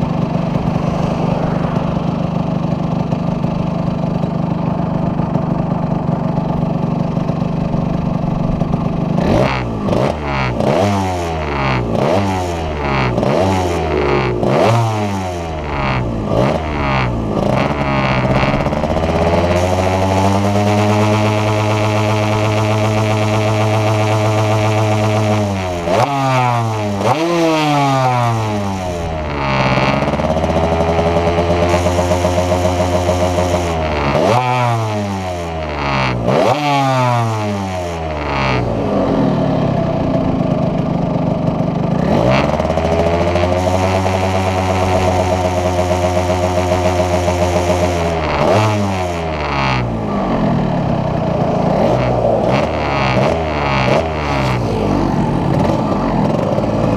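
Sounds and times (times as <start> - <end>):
two-stroke motorcycle engine revving: 0.0 - 56.9.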